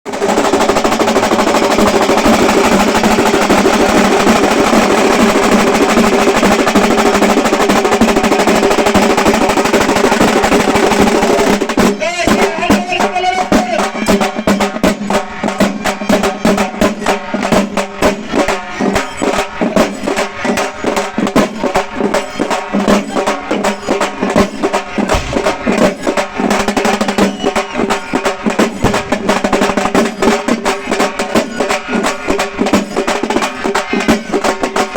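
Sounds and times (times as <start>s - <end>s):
frame drums played with sticks: 0.1s - 34.9s.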